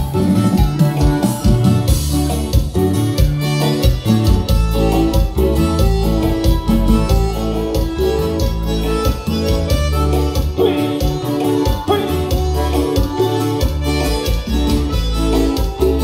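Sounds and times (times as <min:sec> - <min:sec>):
bass: 0:00.0 - 0:16.0
guitar: 0:00.0 - 0:16.0
keyboard: 0:00.0 - 0:16.0
live band playing dance music: 0:00.0 - 0:16.0.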